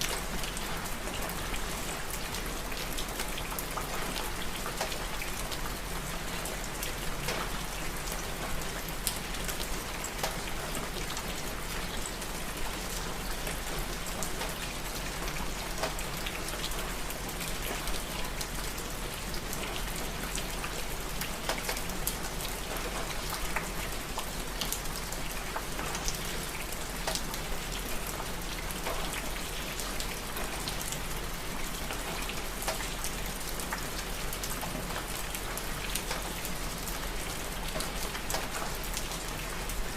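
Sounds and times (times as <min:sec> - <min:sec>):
raindrops ticking on surface: 0:00.0 - 0:39.9.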